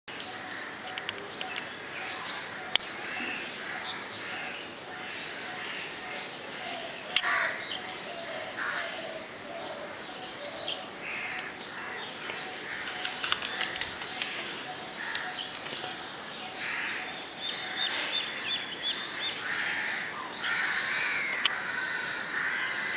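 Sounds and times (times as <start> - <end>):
birds calling and chirping: 0.1 - 22.9.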